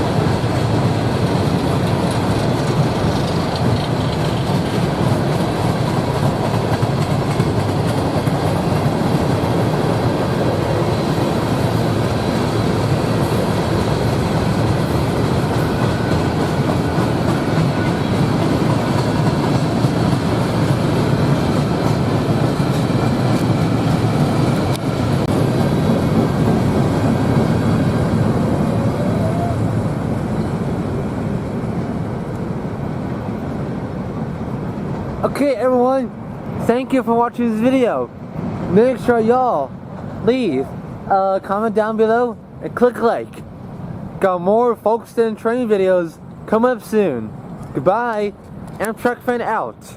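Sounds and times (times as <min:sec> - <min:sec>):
train rumbling past: 0:00.0 - 0:49.9.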